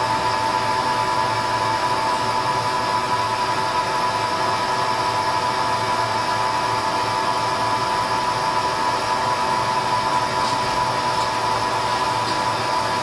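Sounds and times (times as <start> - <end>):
lathe running with high whine: 0.0 - 13.0.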